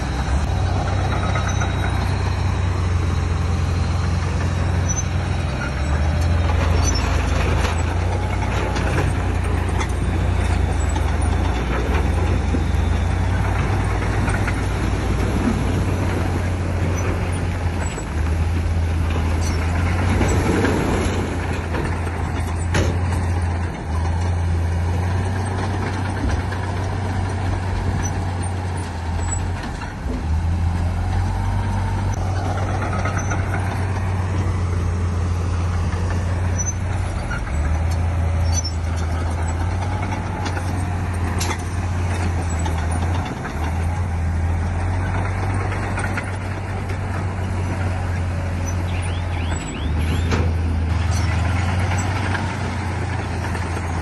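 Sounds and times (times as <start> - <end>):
diesel machinery droning: 0.0 - 54.0.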